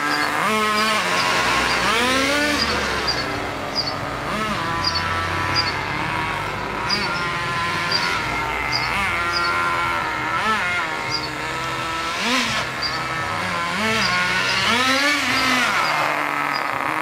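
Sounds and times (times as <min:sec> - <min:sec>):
toy truck motor revving: 0:00.0 - 0:17.0.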